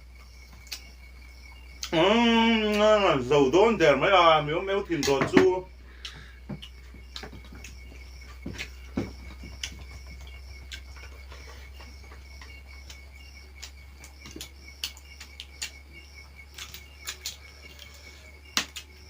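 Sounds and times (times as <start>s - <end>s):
high pulsing chirping: 0.0s - 19.0s.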